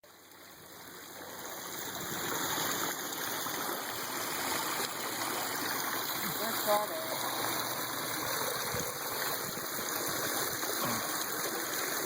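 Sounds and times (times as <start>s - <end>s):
small waterfall splashing: 0.0s - 12.0s.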